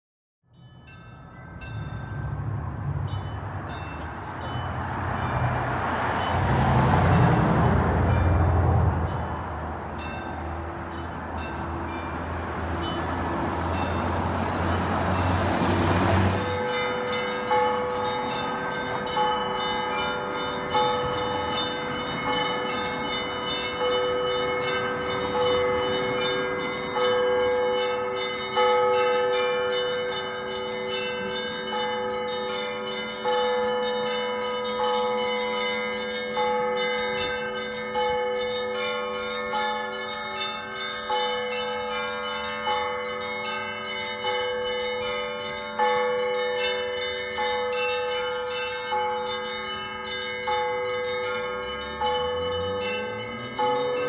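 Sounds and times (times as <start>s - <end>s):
church bells pealing: 0.5s - 54.0s.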